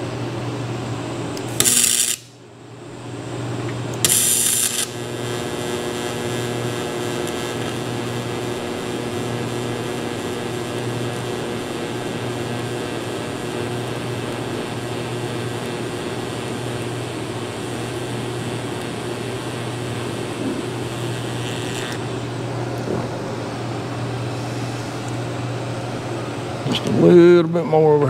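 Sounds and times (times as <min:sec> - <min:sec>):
constant low hum: 0:00.0 - 0:28.0
welding arc hissing: 0:01.3 - 0:02.4, 0:03.6 - 0:26.0.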